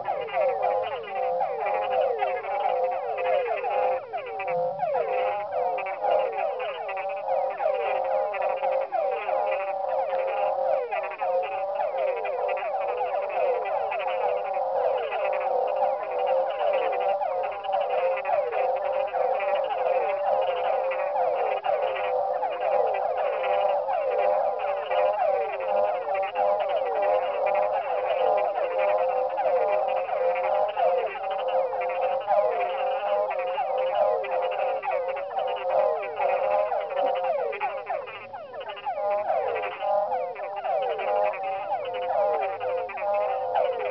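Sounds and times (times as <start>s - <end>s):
frogs and toads calling: 0.0s - 43.9s.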